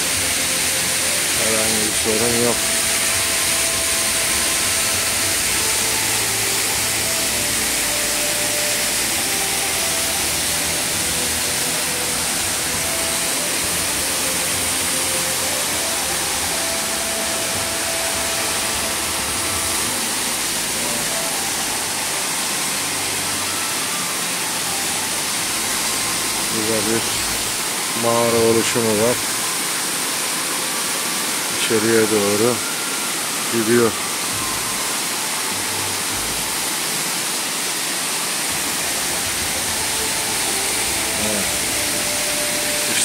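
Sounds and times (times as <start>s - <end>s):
waterfall rushing onto rocks: 0.0s - 43.0s.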